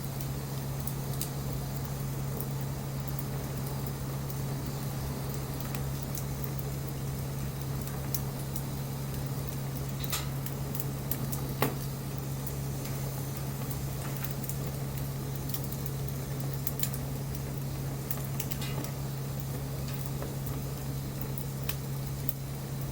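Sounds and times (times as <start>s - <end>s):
wood fire crackling and popping: 0.0s - 22.9s.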